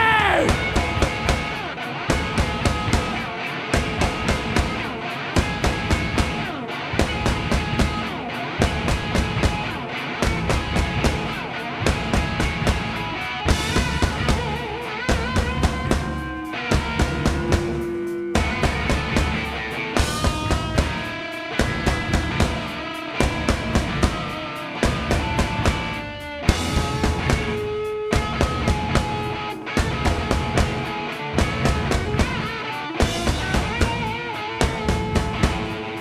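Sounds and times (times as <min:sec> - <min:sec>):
drum kit beat: 0:00.0 - 0:36.0.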